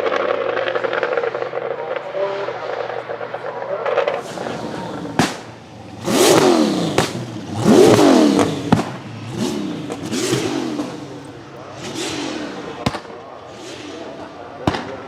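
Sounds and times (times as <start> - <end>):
car engine revving: 0.0 - 15.0
sharp exhaust cracks: 0.0 - 15.0.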